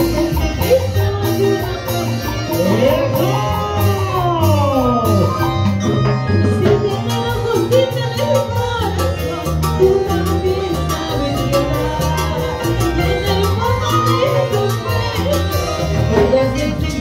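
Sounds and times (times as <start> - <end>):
woman singing into a microphone: 0.0 - 5.6, 6.6 - 17.0
electric bass: 0.0 - 17.0.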